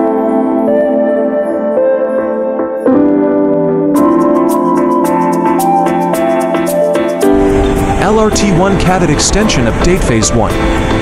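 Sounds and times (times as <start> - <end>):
held keyboard chord: 0.0 - 11.0.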